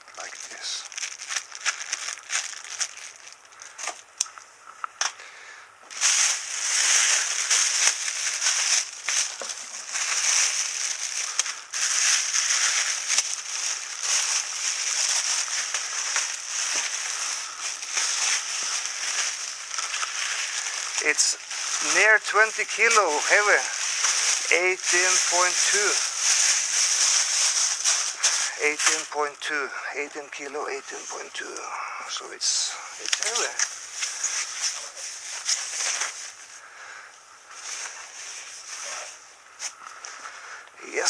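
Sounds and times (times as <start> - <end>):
plastic packaging crinkling: 0.0 - 4.4, 5.9 - 31.7, 32.8 - 36.7, 37.5 - 40.2.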